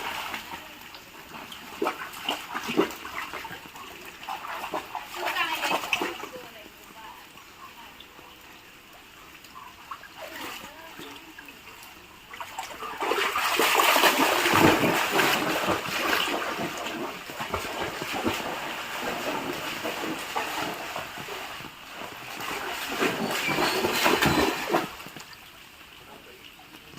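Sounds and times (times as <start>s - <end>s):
pet splashing in water: 0.0s - 6.5s, 9.9s - 25.5s.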